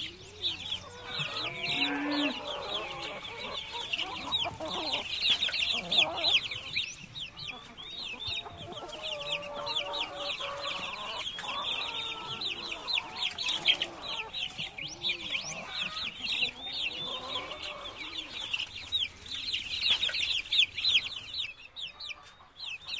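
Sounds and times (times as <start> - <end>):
chickens clucking: 0.0 - 22.9.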